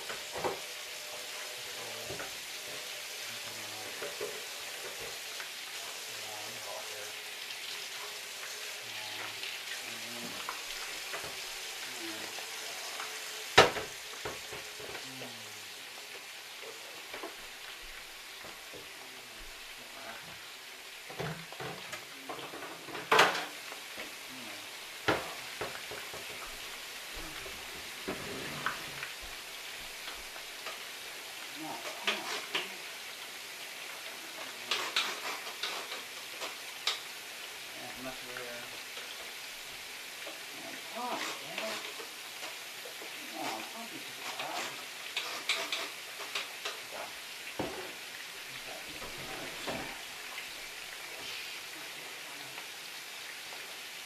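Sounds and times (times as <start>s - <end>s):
meatballs sizzling in a frying pan: 0.0s - 54.0s.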